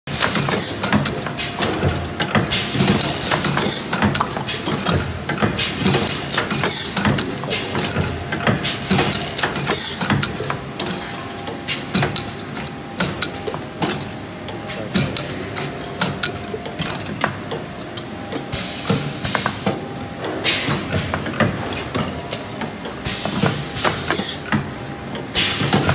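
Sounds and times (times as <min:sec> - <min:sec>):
machine clicking and clacking: 0:00.1 - 0:25.9.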